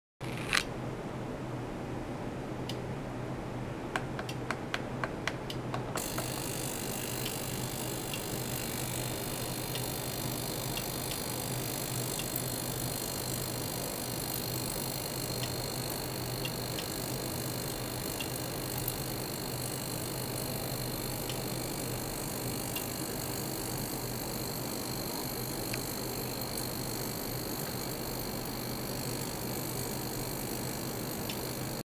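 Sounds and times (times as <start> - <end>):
ultrasonic cleaner hissing: 6.0 - 31.8.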